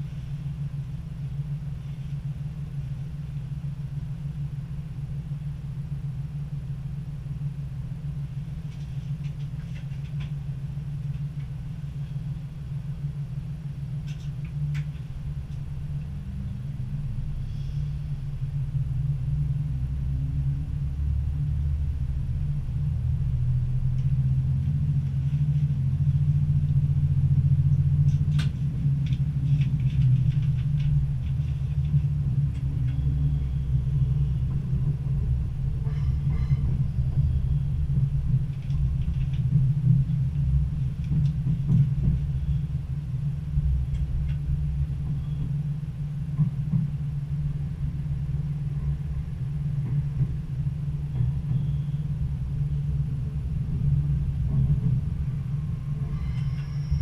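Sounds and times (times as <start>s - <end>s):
train diesel engine idling and revving: 0.0s - 57.0s.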